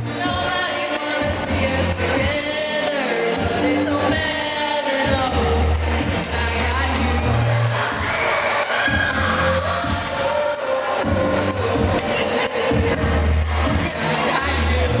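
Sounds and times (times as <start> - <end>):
backing track with bass line: 0.0 - 8.3, 8.9 - 15.0
women singing karaoke duet: 0.0 - 15.0.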